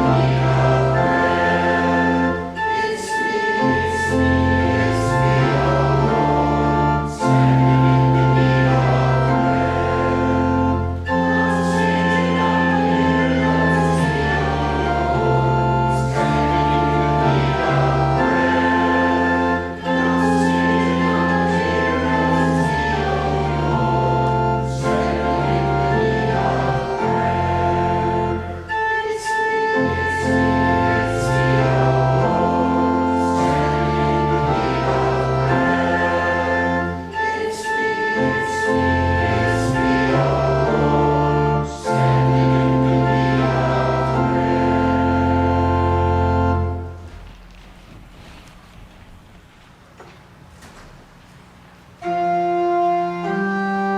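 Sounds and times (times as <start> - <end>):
voices singing a hymn: 0.0 - 47.2, 52.0 - 53.9
organ playing sustained chords: 0.0 - 53.9.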